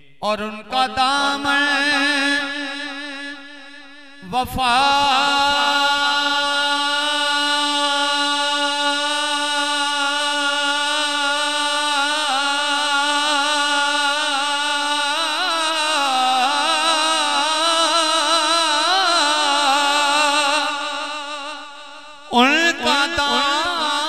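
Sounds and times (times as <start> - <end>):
man singing unaccompanied: 0.0 - 24.0.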